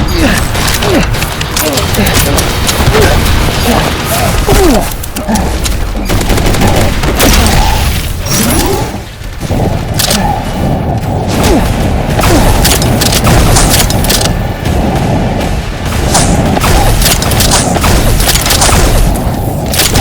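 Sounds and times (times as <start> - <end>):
volleys of shot-like cracks: 0.0 - 20.0.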